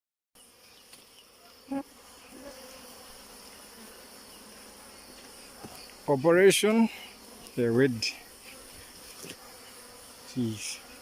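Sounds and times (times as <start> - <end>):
bees buzzing: 0.4 - 11.0.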